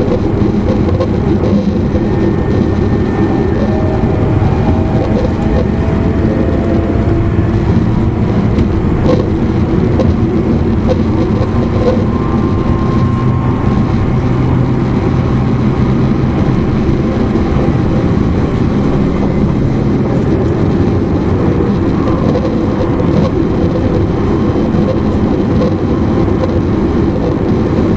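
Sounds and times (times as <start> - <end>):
traction motors humming: 0.0 - 24.0
train wheels rumbling on rails: 0.0 - 27.9.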